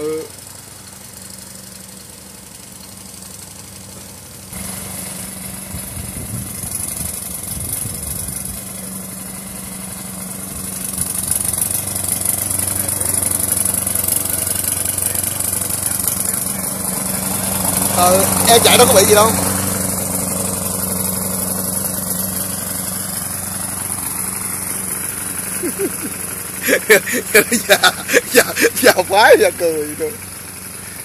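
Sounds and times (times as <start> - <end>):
small gasoline engine humming: 0.0 - 31.0.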